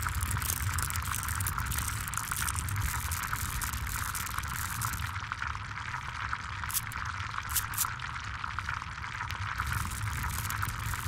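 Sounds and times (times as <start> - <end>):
food sizzling and bubbling: 0.0 - 11.0
low steady rumble: 0.0 - 11.0.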